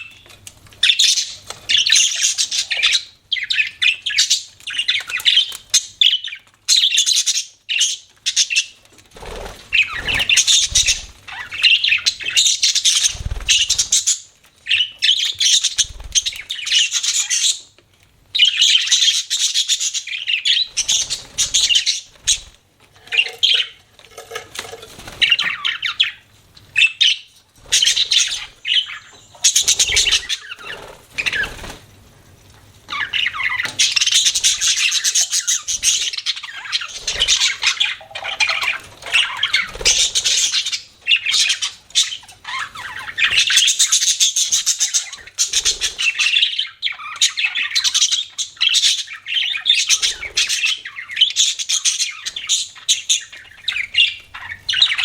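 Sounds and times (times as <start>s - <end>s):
budgerigars chattering and chirping: 0.0s - 17.7s, 18.4s - 31.8s, 32.9s - 55.0s.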